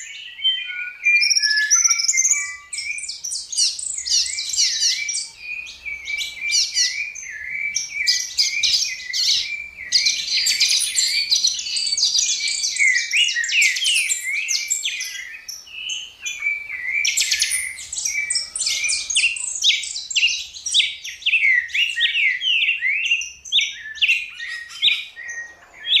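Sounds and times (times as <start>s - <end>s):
birds chirping and twittering: 0.0s - 26.0s.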